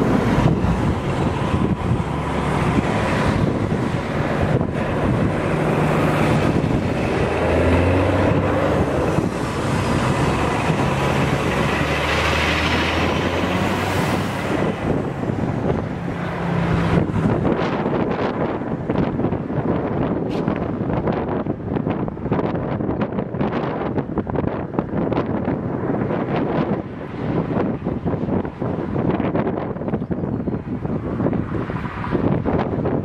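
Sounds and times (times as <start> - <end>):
low hum of vehicle engines: 0.0 - 33.0
vehicle approaching: 0.0 - 33.0
wind buffeting microphone: 0.0 - 33.0.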